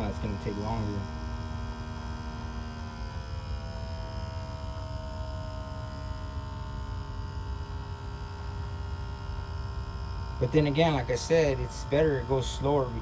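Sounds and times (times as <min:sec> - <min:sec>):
electric fuel pump humming: 0:00.0 - 0:13.0.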